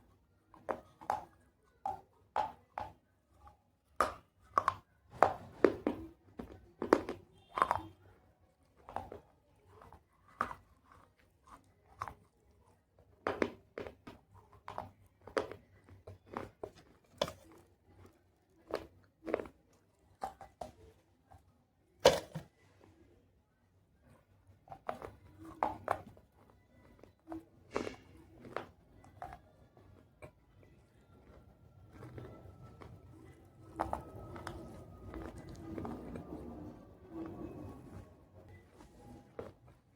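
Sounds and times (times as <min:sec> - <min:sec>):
clay pot pieces being chewed: 0:00.0 - 0:22.5, 0:24.0 - 0:39.9.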